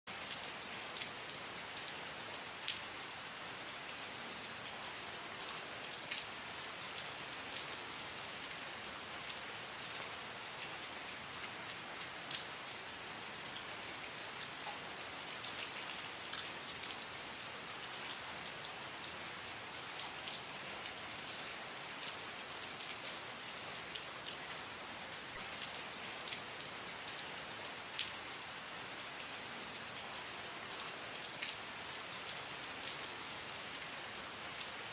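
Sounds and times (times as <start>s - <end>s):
raindrops ticking on a surface: 0.2s - 34.9s.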